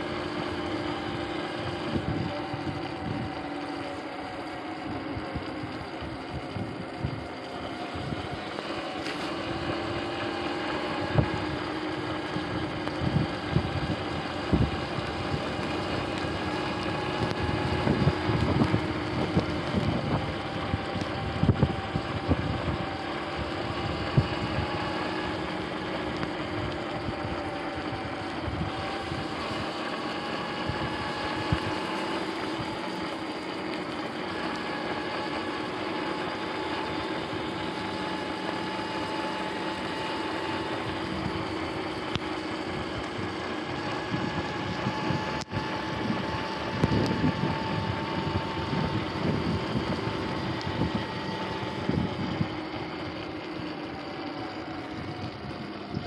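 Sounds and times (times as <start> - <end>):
wind buffeting microphone: 0.0 - 33.2, 34.3 - 54.0
electric dirt bike motor whining: 0.0 - 56.0.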